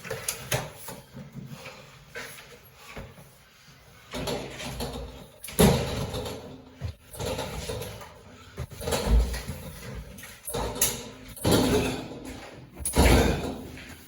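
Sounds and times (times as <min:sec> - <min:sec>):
heavy thumps and scrapes on stairs: 0:00.0 - 0:14.0.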